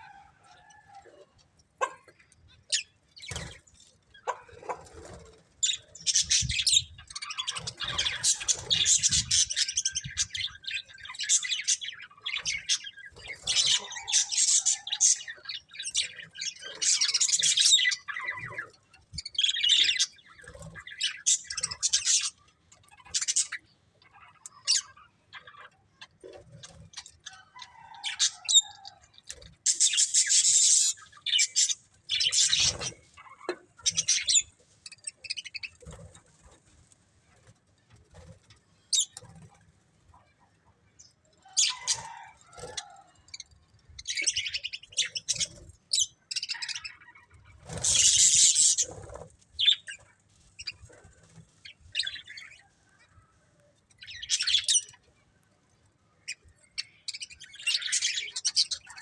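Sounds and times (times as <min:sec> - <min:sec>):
budgerigars chirping and warbling: 0:00.0 - 0:59.0.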